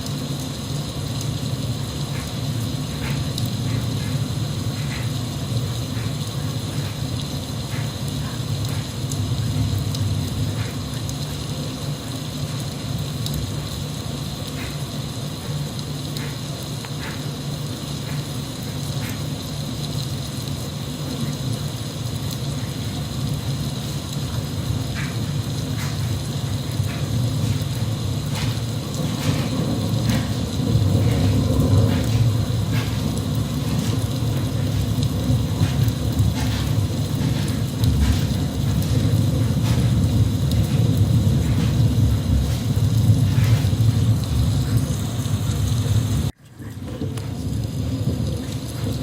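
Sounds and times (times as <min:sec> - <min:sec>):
drips ticking: 0:00.0 - 0:49.0
steady rain falling: 0:00.0 - 0:49.0.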